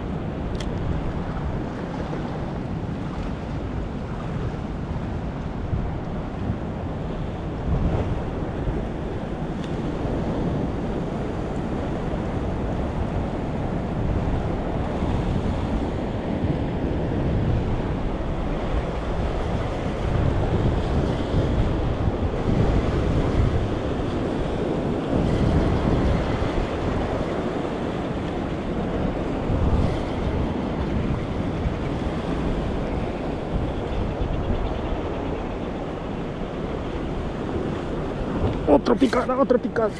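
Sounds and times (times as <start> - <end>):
ocean surf against rocks: 0.0 - 39.9
wind buffeting microphone: 0.0 - 39.9.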